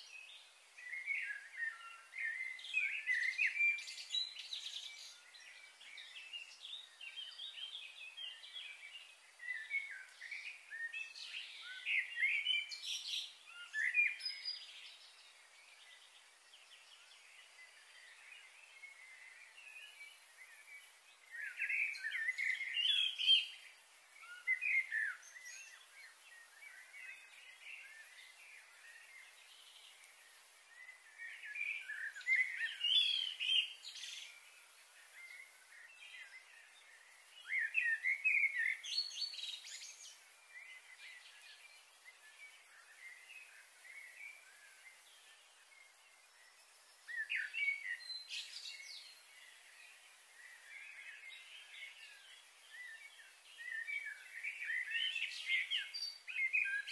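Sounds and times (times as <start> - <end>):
birds chirping and twittering: 0.0 - 56.9
steady outdoor hiss: 0.0 - 56.9.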